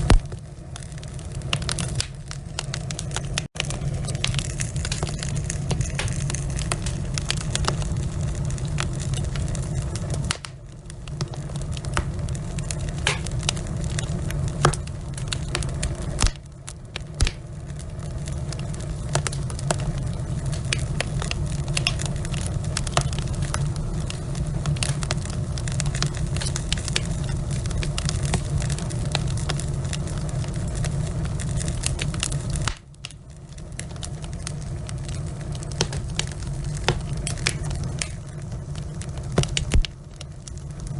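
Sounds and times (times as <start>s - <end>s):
fire popping and crackling: 0.0s - 40.9s
fire rumbling: 0.0s - 40.9s.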